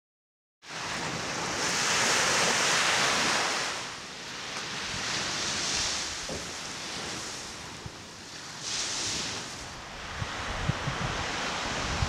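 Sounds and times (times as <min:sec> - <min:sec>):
small waves breaking on beach: 0:00.6 - 0:12.0.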